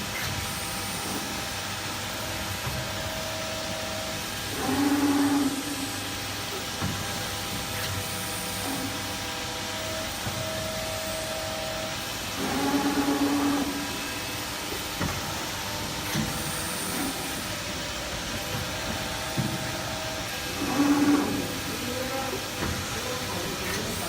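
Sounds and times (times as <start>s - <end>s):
hydraulic press hum and hiss: 0.0s - 24.0s
press ram whine: 0.4s - 24.0s.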